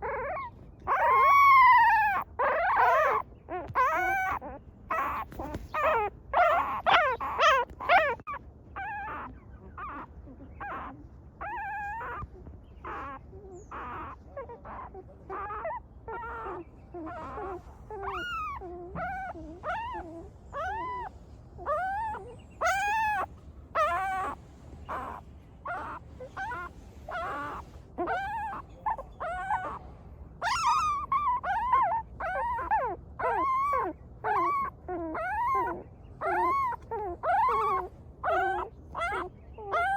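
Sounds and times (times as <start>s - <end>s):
puppies whimpering: 0.0s - 39.9s.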